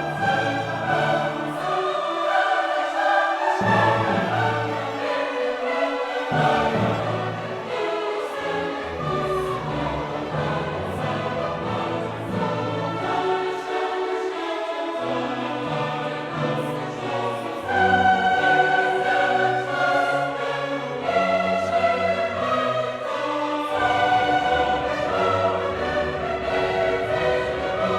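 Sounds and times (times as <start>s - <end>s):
choral and orchestral music: 0.0s - 27.9s.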